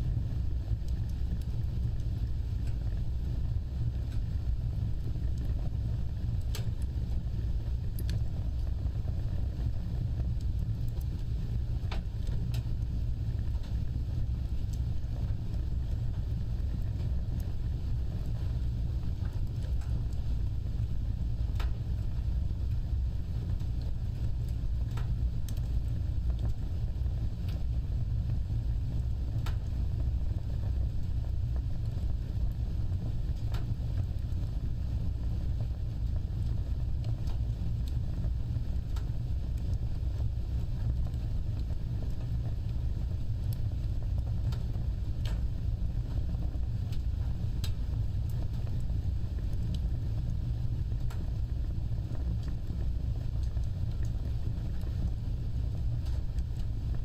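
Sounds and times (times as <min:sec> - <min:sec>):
fire crackling and popping: 0:00.0 - 0:57.0
low roar of flames: 0:00.0 - 0:57.0.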